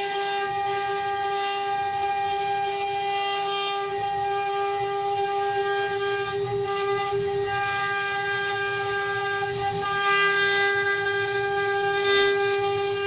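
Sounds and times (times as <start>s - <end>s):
router spindle whine: 0.0s - 13.0s.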